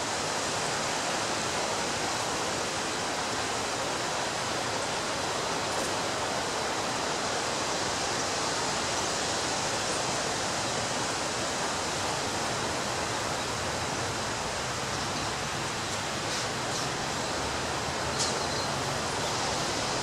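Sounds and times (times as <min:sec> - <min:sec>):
ocean surf on a beach: 0:00.0 - 0:20.0.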